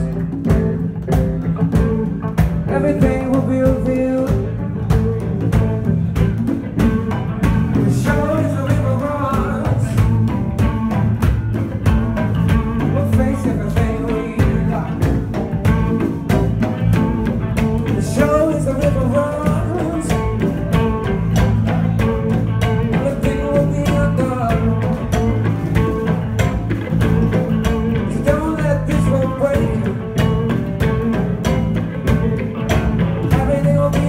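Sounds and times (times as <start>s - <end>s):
bass line: 0.0s - 34.0s
drums: 0.0s - 34.0s
electric guitar: 0.0s - 34.0s.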